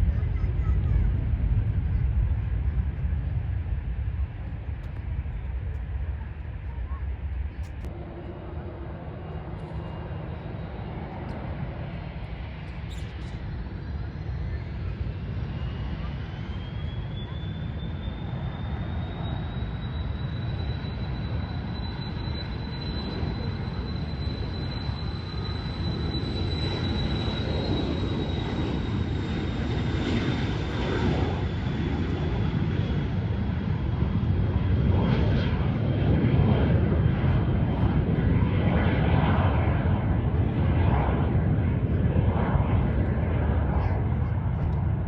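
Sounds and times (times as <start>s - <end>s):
high jet engine whine: 0.0s - 45.0s
jet engine rumble: 0.0s - 45.0s.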